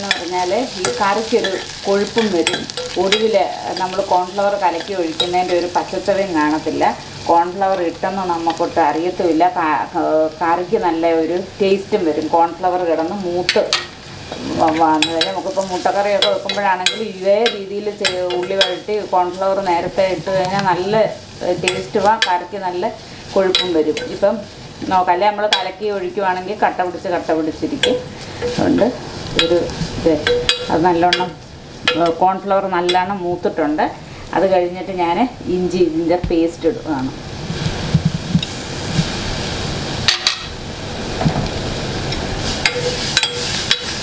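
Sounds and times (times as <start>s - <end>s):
onions sizzling in oil: 0.0s - 44.0s.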